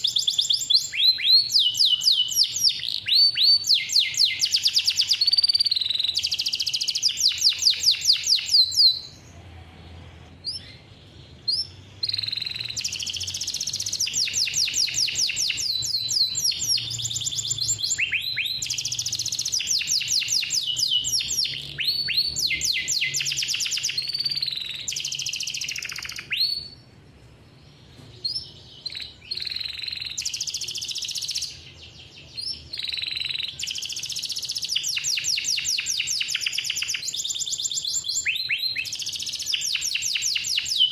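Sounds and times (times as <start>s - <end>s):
canary singing: 0.0s - 9.5s, 10.4s - 26.9s, 27.7s - 40.9s.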